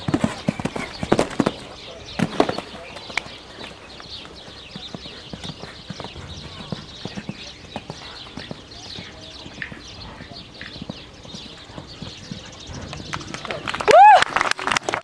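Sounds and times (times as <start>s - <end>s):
horse hooves clopping: 0.0s - 13.9s.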